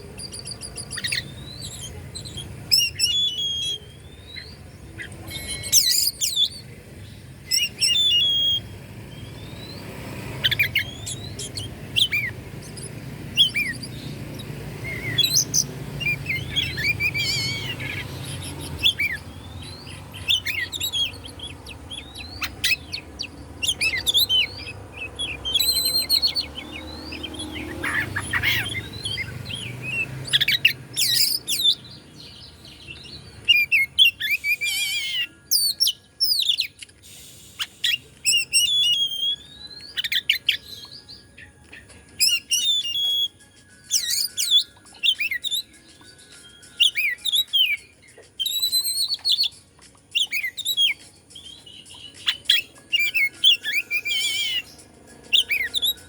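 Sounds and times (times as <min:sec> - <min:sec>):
bird singing whistled phrases: 0:00.2 - 0:06.7, 0:07.5 - 0:32.0, 0:33.4 - 0:36.8, 0:37.4 - 0:41.5, 0:42.2 - 0:54.7, 0:55.3 - 0:56.0.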